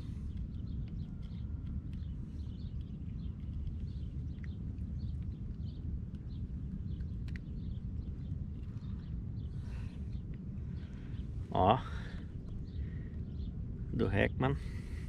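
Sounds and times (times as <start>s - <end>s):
distant bird chirps: 0.0s - 15.0s
low water rumble: 0.0s - 15.0s.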